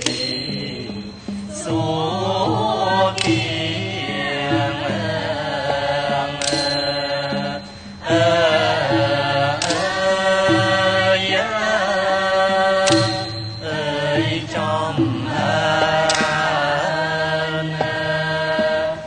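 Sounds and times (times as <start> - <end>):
chorus singing held notes: 0.0 - 19.0
ensemble playing: 0.0 - 19.0.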